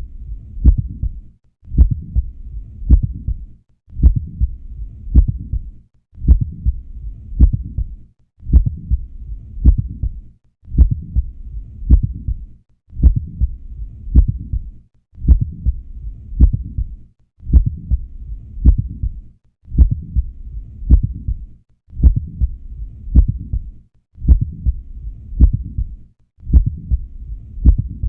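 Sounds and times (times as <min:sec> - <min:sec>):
heartbeat through stethoscope: 0:00.0 - 0:28.0.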